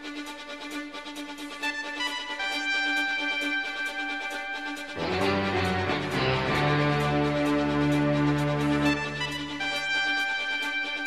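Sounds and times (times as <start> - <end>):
news theme music: 2.0 - 11.0.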